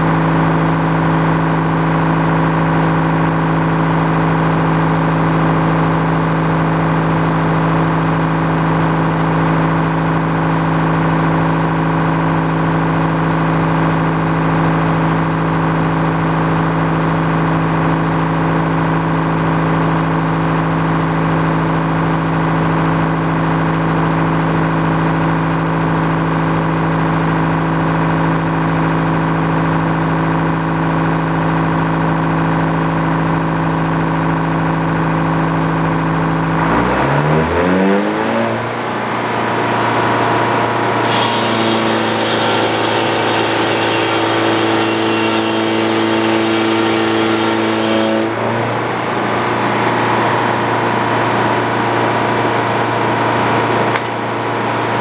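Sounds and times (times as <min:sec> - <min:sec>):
sawmill engine running: 0:00.0 - 0:38.0, 0:38.6 - 0:55.0.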